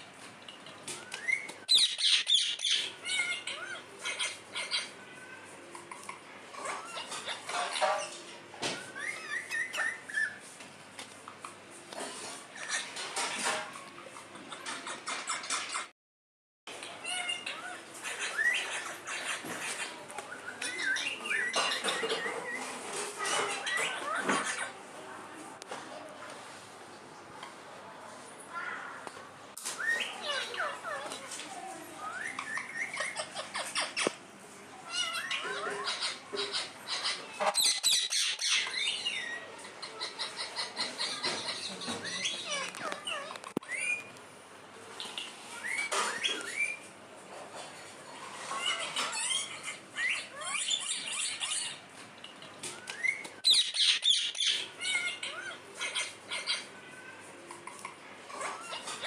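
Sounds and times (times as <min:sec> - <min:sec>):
parakeets chattering and squawking: 0:00.2 - 0:10.5, 0:11.4 - 0:15.9, 0:16.7 - 0:24.9, 0:29.8 - 0:34.2, 0:34.8 - 0:44.1, 0:44.9 - 0:59.0.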